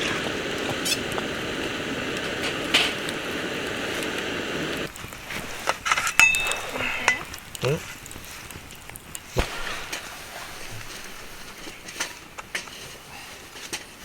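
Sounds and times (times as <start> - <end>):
food sizzling over campfire: 0.0 - 14.0.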